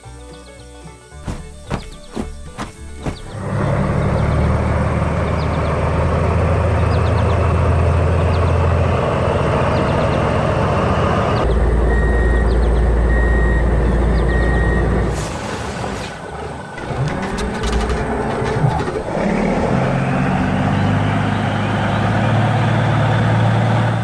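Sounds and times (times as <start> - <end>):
heavy engine humming: 1.2 - 24.0.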